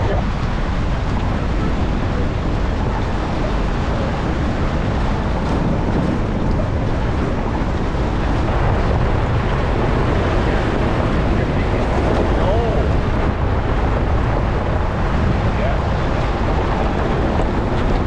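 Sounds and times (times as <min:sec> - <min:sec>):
steady rumble: 0:00.0 - 0:18.0
wind noise on microphone: 0:00.0 - 0:18.0.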